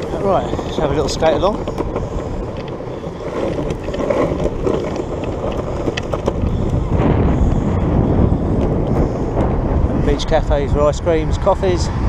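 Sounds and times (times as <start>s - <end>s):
longboard wheels rolling on concrete: 0.0s - 12.0s.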